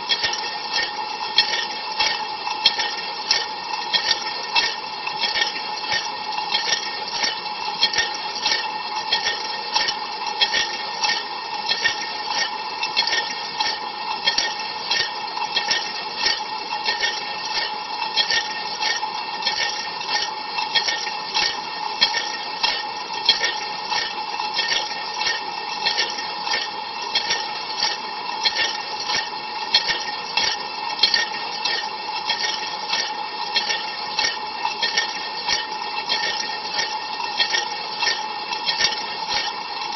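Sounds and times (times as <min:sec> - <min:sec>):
dishwasher hum: 0:00.0 - 0:39.9.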